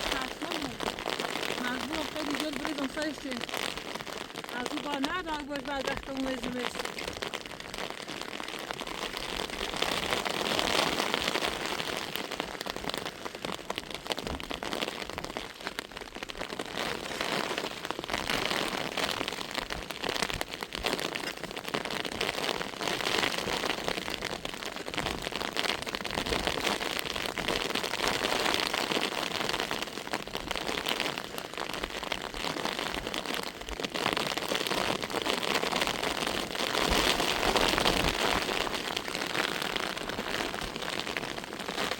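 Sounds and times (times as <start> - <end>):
heavy rain patter on ground: 0.0 - 41.9.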